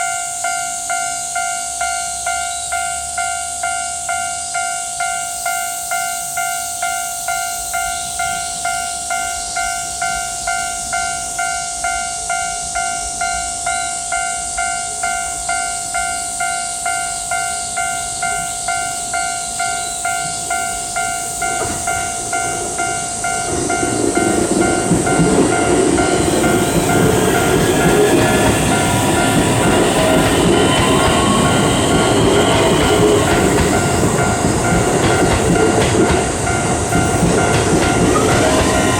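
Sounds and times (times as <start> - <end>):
level-crossing bell dinging: 0.0 - 38.9
steady high hiss: 0.0 - 38.9
train running noise: 0.0 - 38.9.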